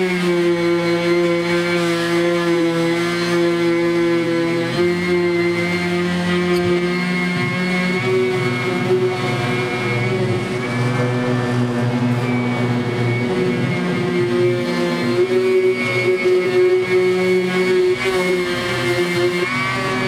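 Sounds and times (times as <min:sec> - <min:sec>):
power sander on sheet metal: 0:00.0 - 0:20.0.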